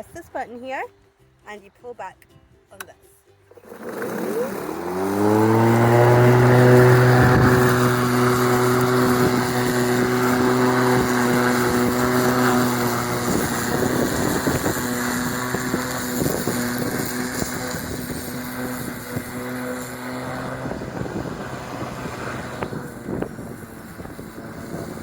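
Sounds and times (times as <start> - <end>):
electric lawn mower humming: 3.5 - 25.0.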